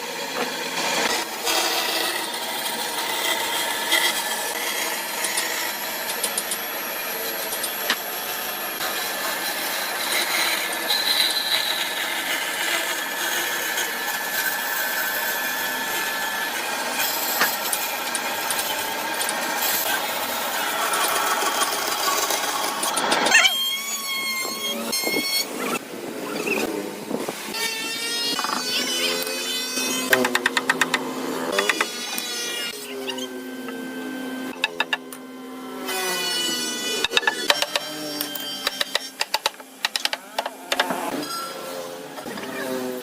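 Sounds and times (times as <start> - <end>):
power tool grinding wood: 0.0 - 43.0.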